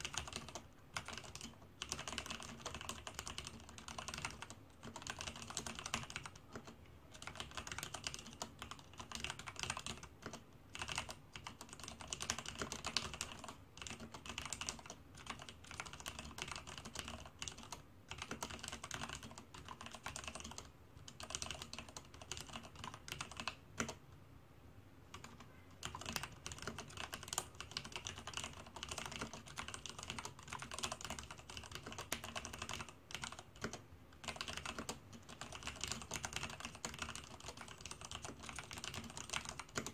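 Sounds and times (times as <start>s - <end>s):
mechanical keyboard typing: 0.0s - 24.0s, 25.1s - 39.9s.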